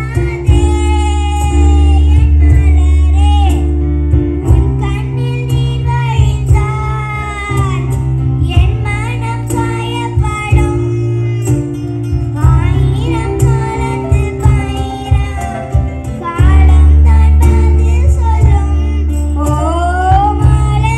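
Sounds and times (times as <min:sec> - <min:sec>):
acoustic guitar and keyboard band: 0:00.0 - 0:20.9
girl singing into a microphone: 0:00.0 - 0:20.9.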